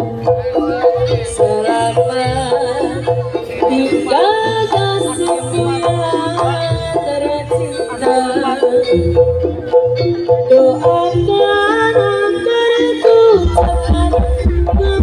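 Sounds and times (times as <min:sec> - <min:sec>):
high melody: 0:00.0 - 0:15.0
low drum beats: 0:00.0 - 0:15.0.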